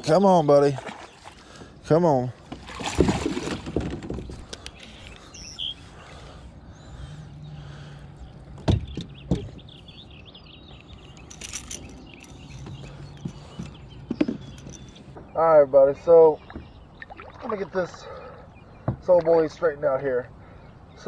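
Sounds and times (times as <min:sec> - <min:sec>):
birds chirping and singing: 0:00.0 - 0:02.6, 0:03.4 - 0:21.0.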